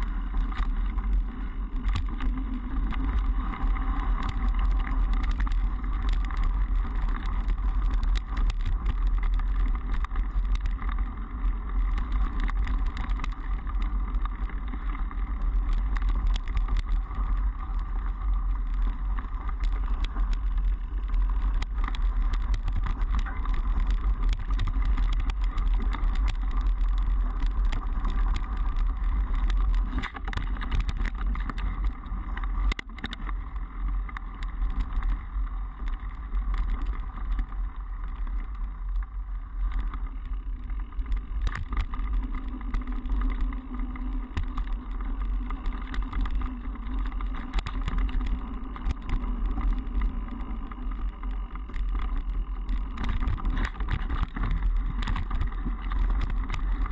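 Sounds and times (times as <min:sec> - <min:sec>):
bike tyres rumbling on dirt: 0:00.0 - 0:56.9.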